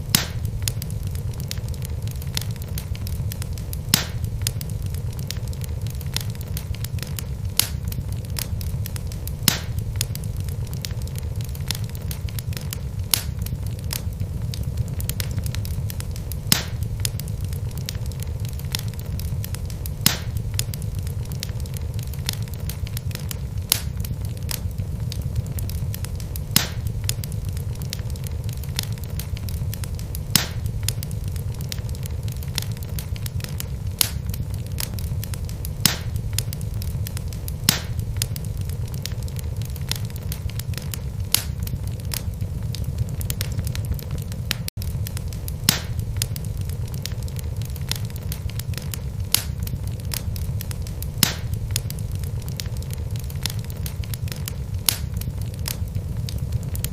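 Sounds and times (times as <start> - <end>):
burning wood popping: 0.0 - 56.9
fire rumbling and crackling: 0.0 - 56.9.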